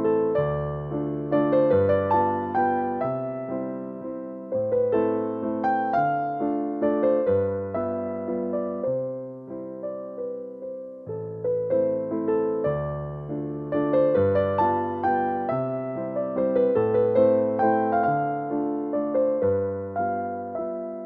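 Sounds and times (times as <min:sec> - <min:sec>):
gentle piano piece: 0:00.0 - 0:21.0.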